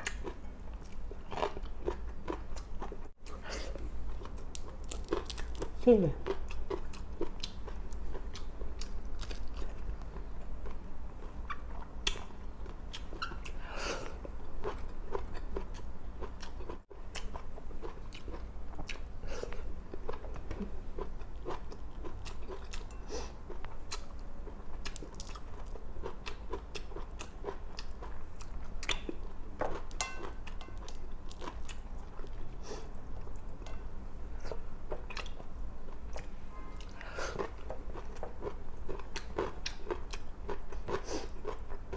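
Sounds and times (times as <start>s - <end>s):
chewing and crunching food: 0.0s - 3.4s, 4.1s - 41.9s.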